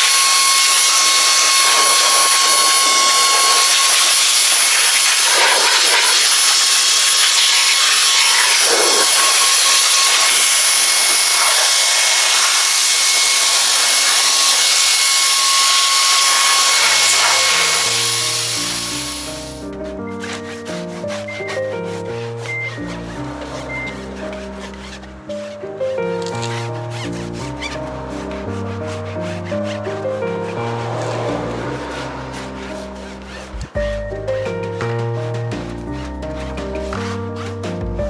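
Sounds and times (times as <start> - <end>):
air duster blowing with motor whine: 0.0 - 36.8
music: 7.3 - 38.0.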